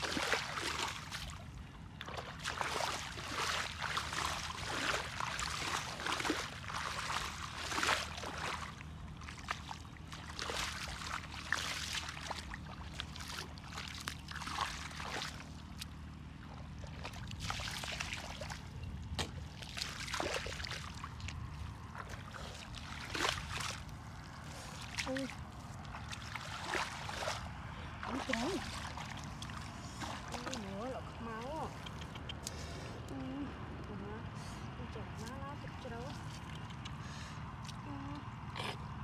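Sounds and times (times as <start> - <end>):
water splashes: 0.0 - 32.8
feet sloshing in muddy water: 0.0 - 33.6, 34.7 - 39.0.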